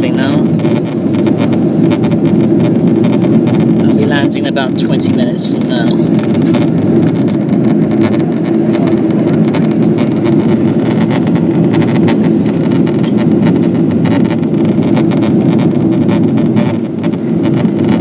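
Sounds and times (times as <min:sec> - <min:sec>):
airplane cabin roar: 0:00.0 - 0:18.0.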